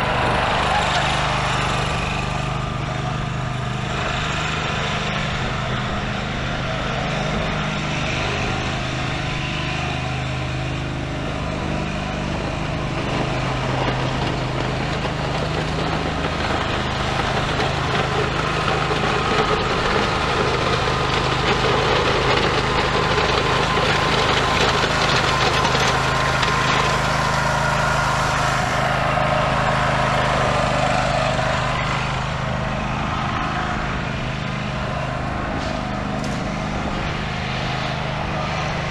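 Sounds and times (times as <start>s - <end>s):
blade pushing dirt: 0.0s - 38.9s
mower engine running: 0.0s - 38.9s.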